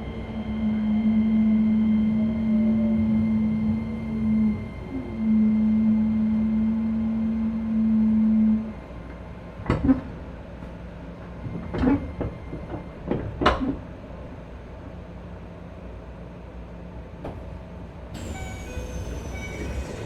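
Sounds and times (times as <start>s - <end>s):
train car rumble: 0.0s - 20.0s
train inverter hum: 0.0s - 20.0s.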